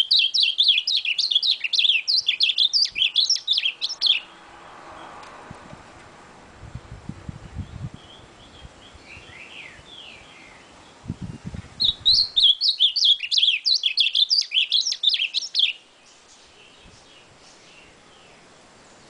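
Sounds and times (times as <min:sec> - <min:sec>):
bird warbling song: 0:00.0 - 0:04.4, 0:07.4 - 0:19.0
soft bird chirps: 0:00.0 - 0:05.2, 0:07.5 - 0:19.0.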